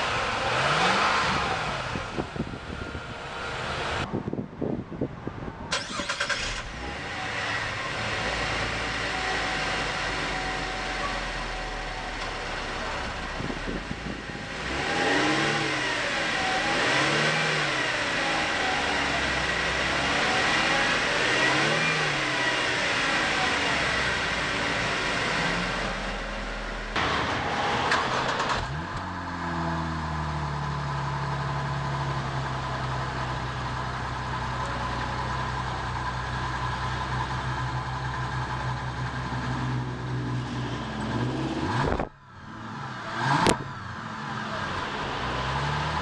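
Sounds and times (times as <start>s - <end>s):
engine idling and revving: 0.0s - 5.1s, 5.7s - 46.0s
car exhaust: 0.0s - 46.0s.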